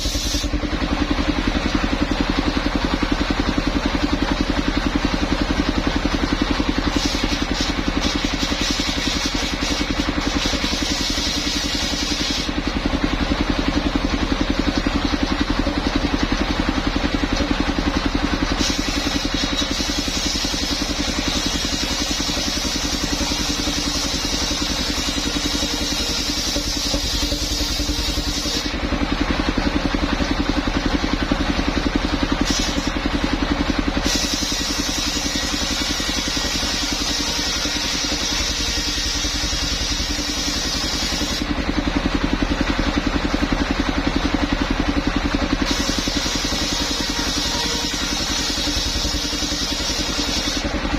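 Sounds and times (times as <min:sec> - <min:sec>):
saw hissing through wood: 0:00.0 - 0:16.3, 0:17.1 - 0:29.0, 0:32.1 - 0:41.5, 0:45.6 - 0:50.8
saw rig engine running: 0:00.0 - 0:50.9.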